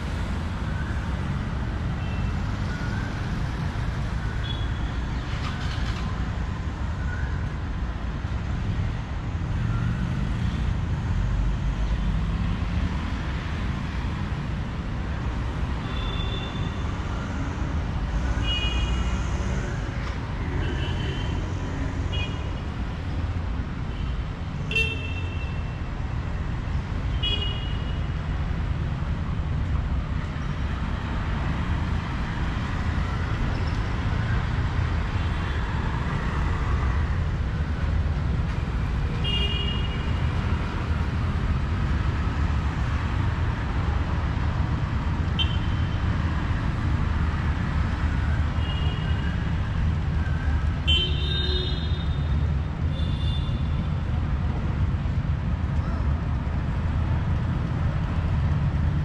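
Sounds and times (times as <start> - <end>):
street traffic: 0.0 - 59.0.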